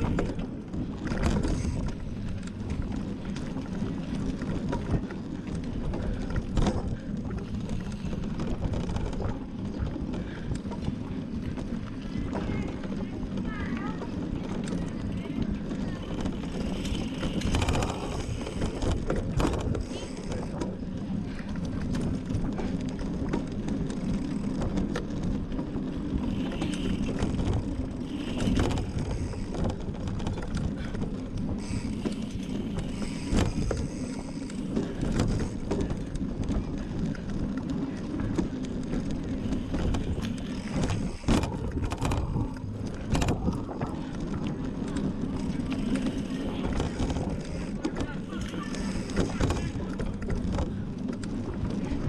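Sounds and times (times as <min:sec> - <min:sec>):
bike rattling and knocking: 0:00.0 - 0:52.0
bike tyre and drivetrain rumble: 0:00.0 - 0:52.0.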